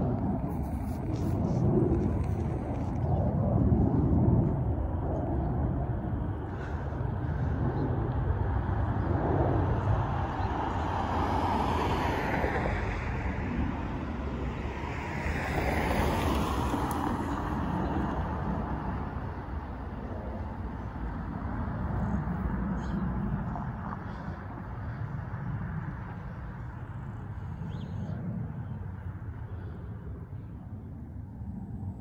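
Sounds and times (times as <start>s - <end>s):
jet engines roaring: 0.0s - 32.0s
road traffic: 0.0s - 32.0s
wind on microphone: 0.0s - 32.0s.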